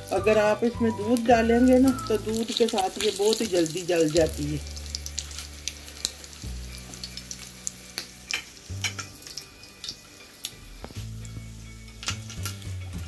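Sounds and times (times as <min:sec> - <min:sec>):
bread frying in oil: 0:00.0 - 0:13.0.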